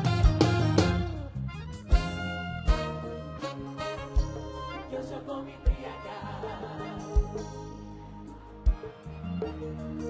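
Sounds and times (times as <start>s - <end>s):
instrumental music held notes: 0.0s - 10.0s.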